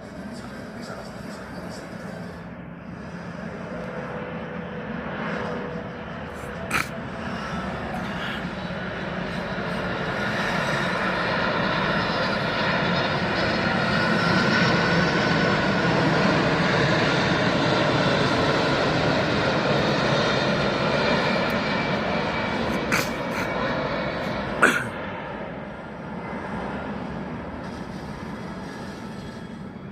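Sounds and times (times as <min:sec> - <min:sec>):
jet engines flying past: 0:00.0 - 0:29.9.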